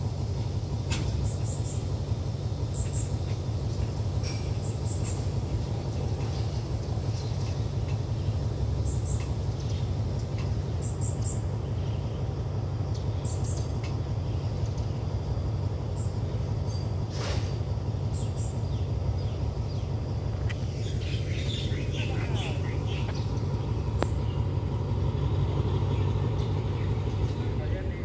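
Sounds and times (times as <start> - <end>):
freight wagons rolling on rails: 0.0 - 28.0.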